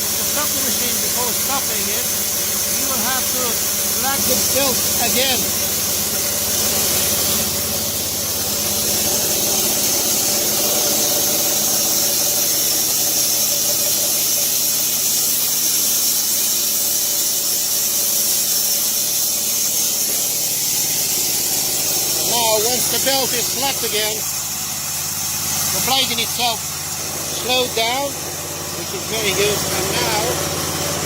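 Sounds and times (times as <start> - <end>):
band sawmill running: 0.0 - 31.0.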